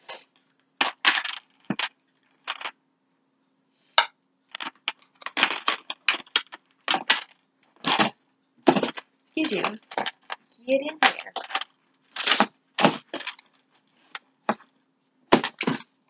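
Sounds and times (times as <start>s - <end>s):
small hard pieces clattering: 0.2s - 2.8s, 4.5s - 14.7s, 15.3s - 15.9s.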